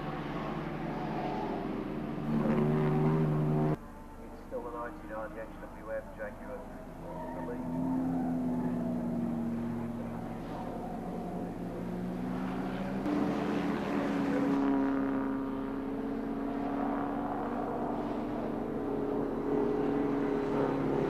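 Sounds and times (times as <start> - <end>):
racing car engines at speed: 0.0 - 21.0.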